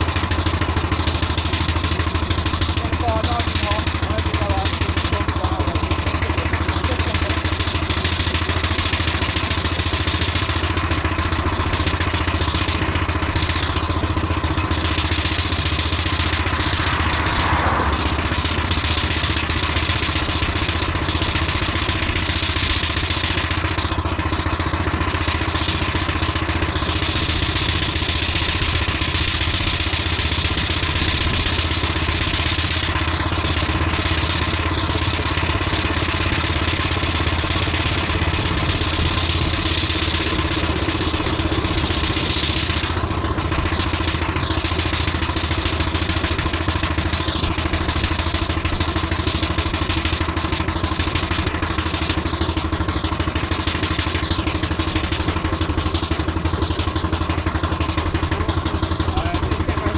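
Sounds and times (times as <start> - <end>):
low engine drone: 0.0 - 59.9
steam engine clatter: 0.0 - 59.9.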